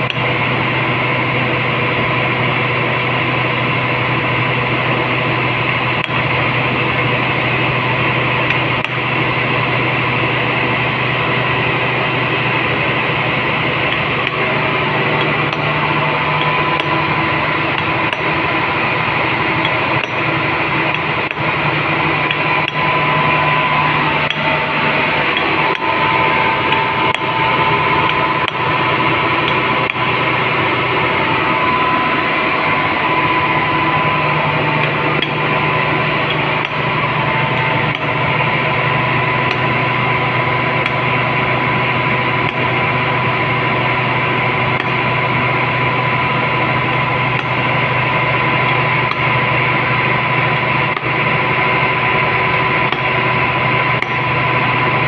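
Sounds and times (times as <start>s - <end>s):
plant machinery drone: 0.0s - 55.0s.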